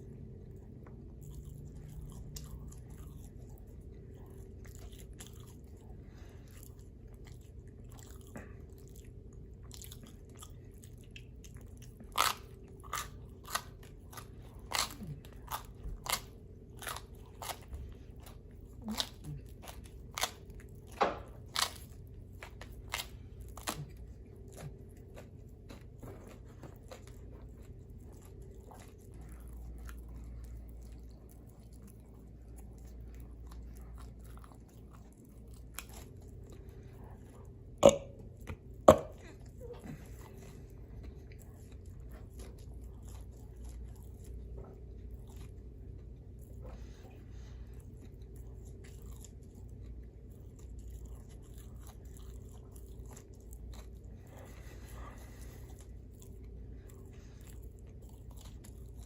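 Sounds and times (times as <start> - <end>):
soft chewing: 0.0 - 59.0.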